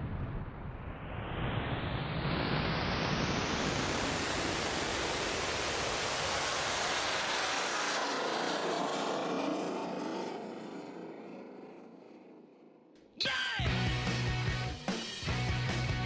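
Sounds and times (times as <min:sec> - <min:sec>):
rising whoosh of filtered noise: 0:00.0 - 0:12.9.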